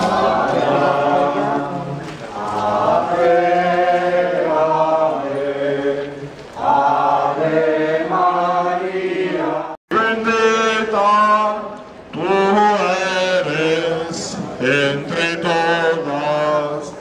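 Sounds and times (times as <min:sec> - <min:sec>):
group chanting a sung prayer: 0:00.0 - 0:17.0.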